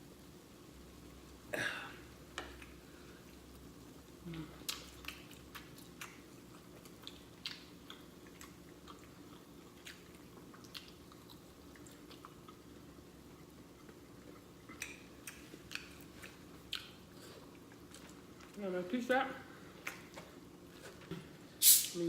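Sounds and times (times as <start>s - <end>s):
person chewing with wet smacking: 2.4s - 18.6s, 19.7s - 21.2s.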